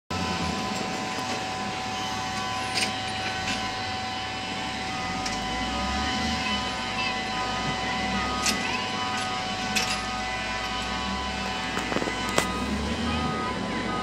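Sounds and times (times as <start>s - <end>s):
diesel engine running: 0.1s - 14.0s
high whine: 0.1s - 14.0s.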